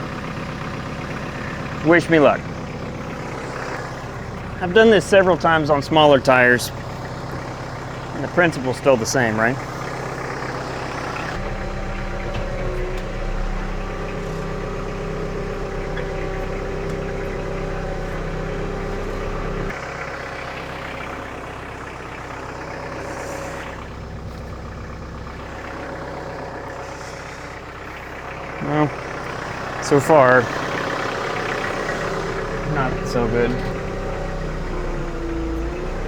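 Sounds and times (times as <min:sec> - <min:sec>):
engine running under load: 0:00.0 - 0:36.0.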